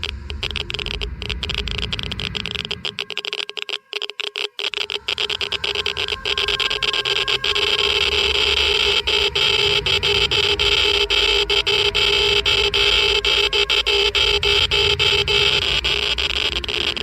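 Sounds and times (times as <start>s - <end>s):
geiger counter clicking: 0.0s - 17.0s.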